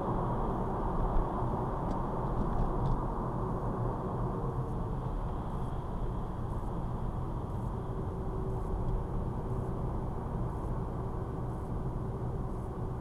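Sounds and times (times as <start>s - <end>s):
car road and engine rumble: 0.0s - 13.0s
faint steady hum: 0.0s - 13.0s.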